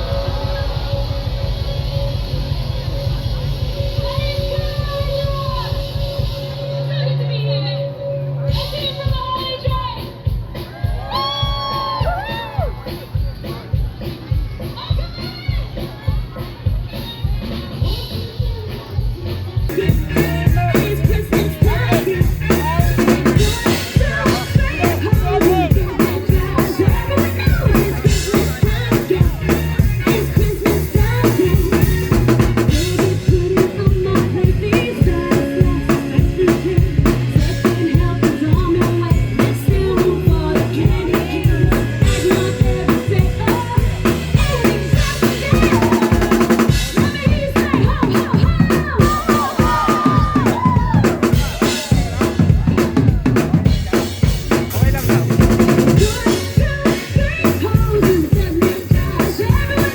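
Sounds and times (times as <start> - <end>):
drum kit beat: 0.0 - 59.9
live band over loudspeakers: 0.0 - 59.9.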